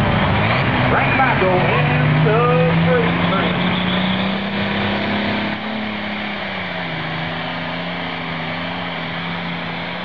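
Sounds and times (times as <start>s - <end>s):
tractor engine under full load: 0.0s - 10.0s.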